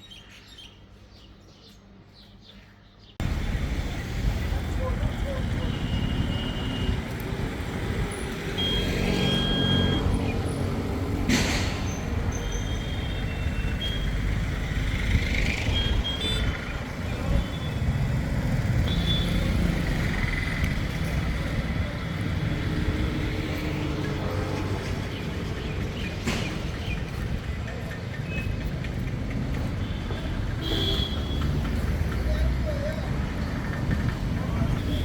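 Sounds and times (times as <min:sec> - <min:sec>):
traffic rumble: 0:03.2 - 0:35.0.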